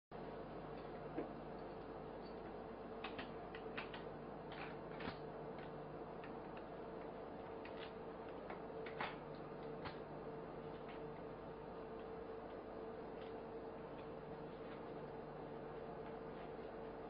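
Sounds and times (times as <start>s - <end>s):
faint hum: 0.1s - 17.0s.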